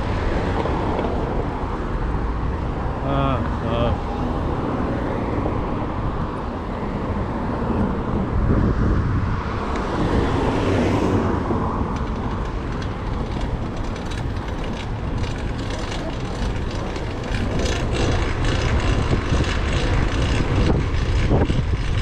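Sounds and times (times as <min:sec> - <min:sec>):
road traffic rumble: 0:00.0 - 0:22.0
vehicle passing: 0:00.0 - 0:22.0.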